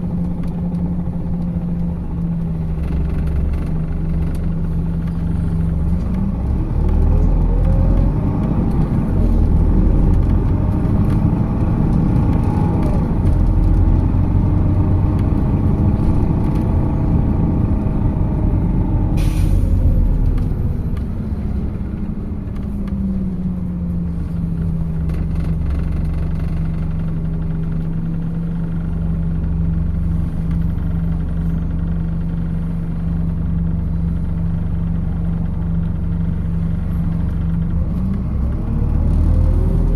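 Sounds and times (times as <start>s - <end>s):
bus diesel engine pulling: 0.0s - 39.9s.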